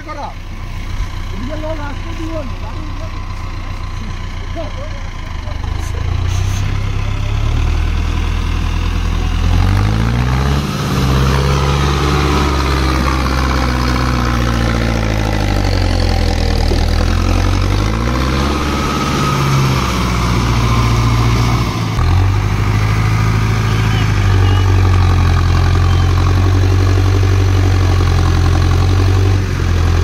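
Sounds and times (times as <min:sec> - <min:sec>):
tractor diesel engine labouring: 0:00.0 - 0:30.0.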